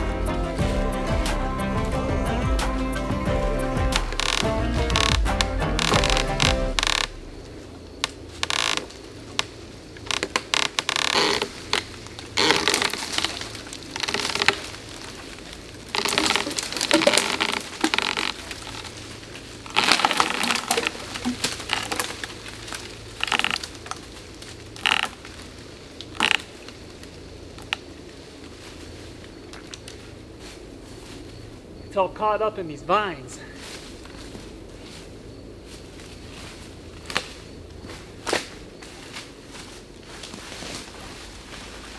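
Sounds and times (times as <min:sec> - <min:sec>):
brush rustling and snapping: 0:03.9 - 0:31.4, 0:33.6 - 0:41.9.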